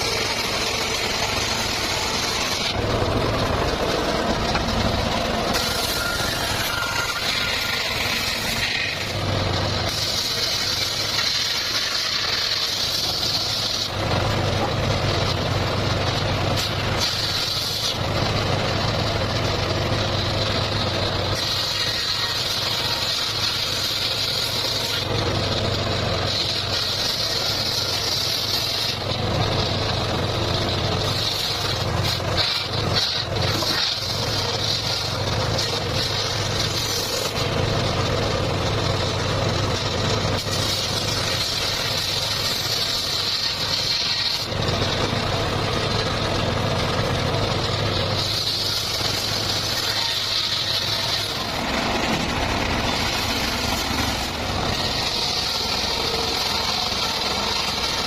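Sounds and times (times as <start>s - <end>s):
circular saw cutting: 0.0s - 58.0s.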